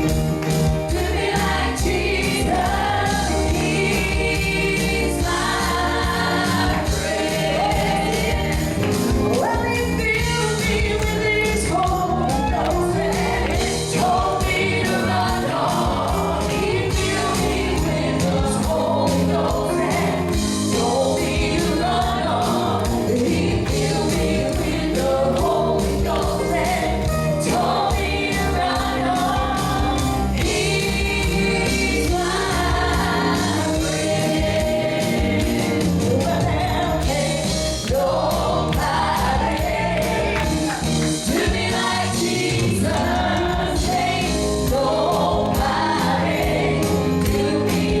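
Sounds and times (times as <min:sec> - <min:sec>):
band playing: 0:00.0 - 0:48.0
congregation singing gospel: 0:00.0 - 0:48.0.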